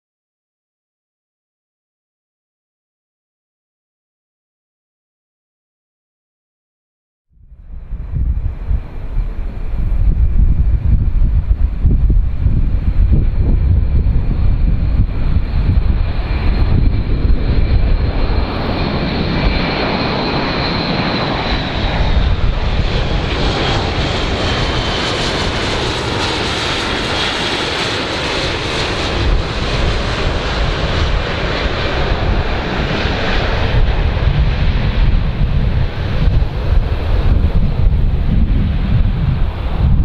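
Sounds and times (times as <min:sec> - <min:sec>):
turboprop aircraft droning: 0:07.4 - 0:40.0.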